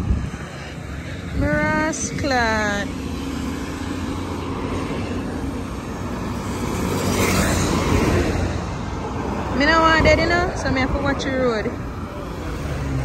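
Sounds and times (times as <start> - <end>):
minibus driving past: 0.0 - 13.0
road traffic rumble: 0.0 - 13.0.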